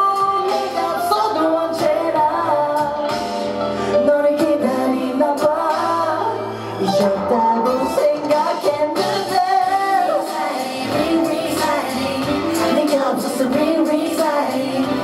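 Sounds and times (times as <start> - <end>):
backing music with bass and drums: 0.0 - 15.0.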